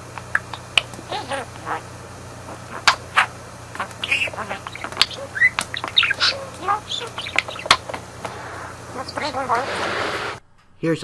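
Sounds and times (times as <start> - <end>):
steady low hum: 0.0 - 11.0
budgerigar chattering: 0.4 - 8.0, 8.6 - 9.8.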